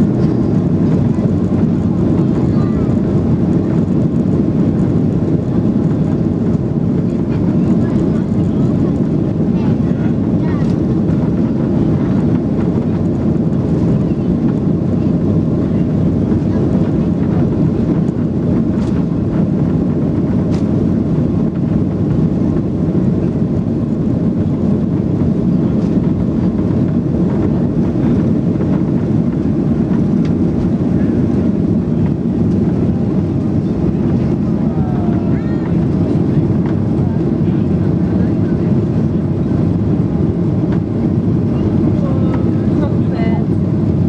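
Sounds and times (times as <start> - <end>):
jet engines and wheels rumbling: 0.0 - 44.0.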